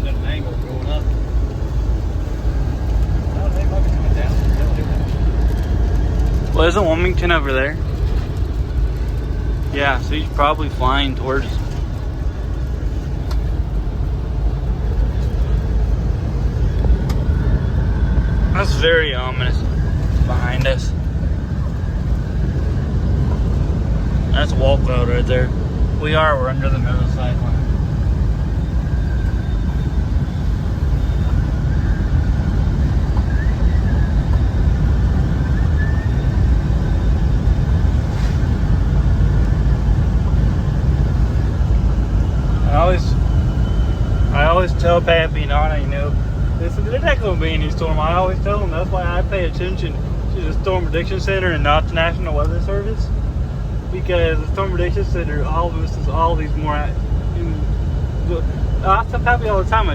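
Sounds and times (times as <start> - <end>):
car road rumble: 0.0 - 59.9.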